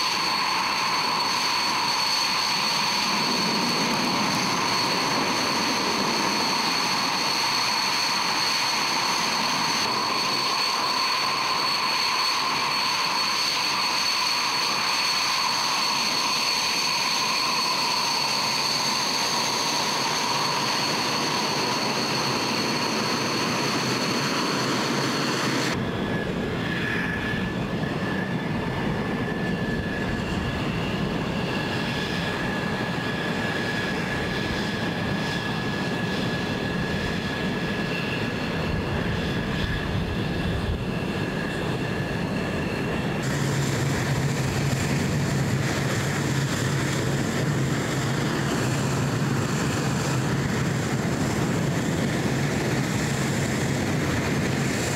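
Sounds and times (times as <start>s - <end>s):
deep jet engine rumble: 0.0s - 54.9s
jet engine whine: 0.0s - 54.9s.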